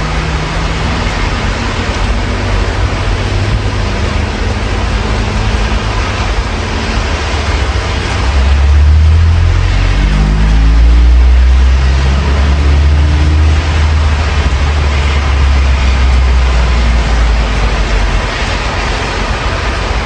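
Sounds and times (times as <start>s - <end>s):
heavy vehicle engine rumble: 0.0s - 20.0s
rain hissing: 0.0s - 20.0s.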